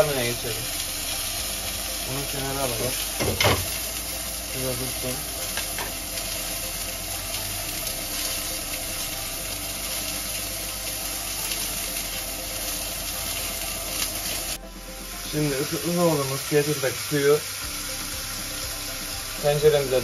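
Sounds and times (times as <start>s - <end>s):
steak sizzling in a pan: 0.0s - 20.0s.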